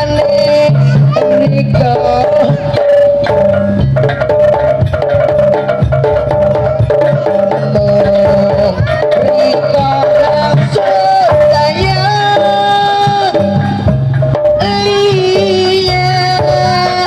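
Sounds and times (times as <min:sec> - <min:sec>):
hand drums beating a rhythm: 0:00.0 - 0:17.0
stepping melody line: 0:00.0 - 0:17.0.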